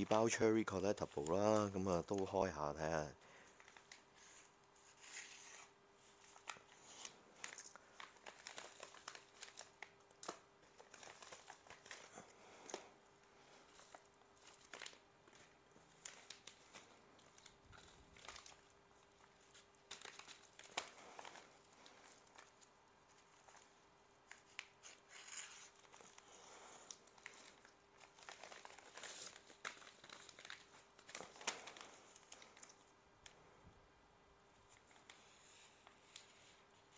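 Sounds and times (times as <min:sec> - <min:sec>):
envelopes crinkling and rustling: 0:00.0 - 0:33.4, 0:34.5 - 0:36.9
faint steady hum: 0:00.0 - 0:36.9.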